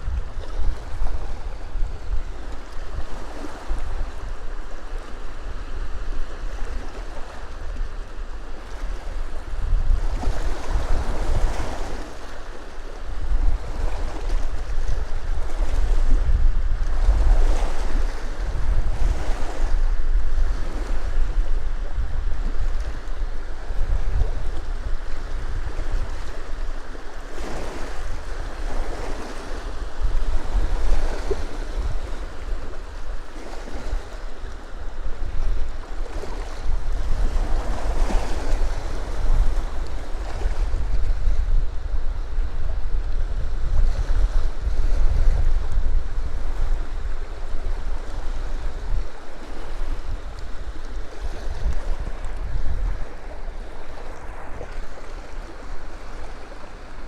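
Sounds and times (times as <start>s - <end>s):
small waves washing onto shore: 0.0s - 57.0s
wind rumbling on microphone: 0.0s - 57.0s.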